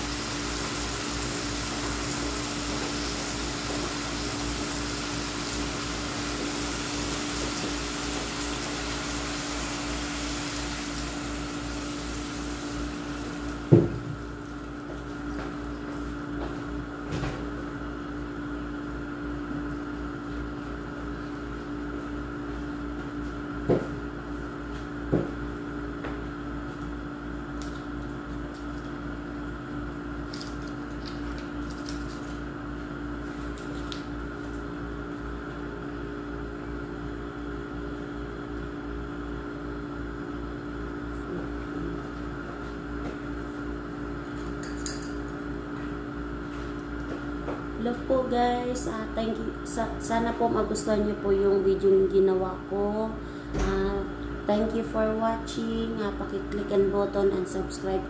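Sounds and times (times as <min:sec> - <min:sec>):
appliance droning hum: 0:00.0 - 0:58.0.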